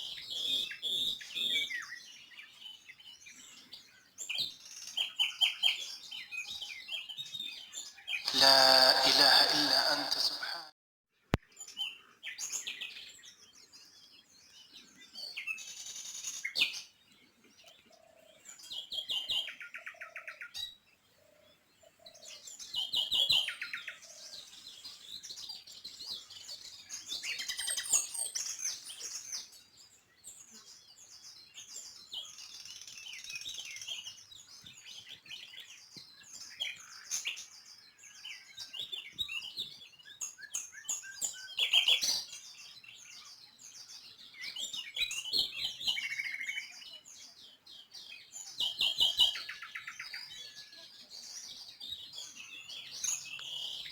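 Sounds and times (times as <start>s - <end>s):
small songbirds chirping: 0.0s - 8.3s, 11.2s - 53.9s.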